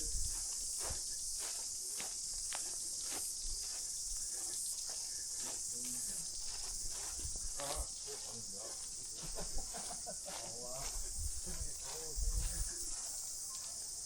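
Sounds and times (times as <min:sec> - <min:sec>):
footsteps on gravel: 0:00.0 - 0:14.0
insect chorus: 0:00.0 - 0:14.0.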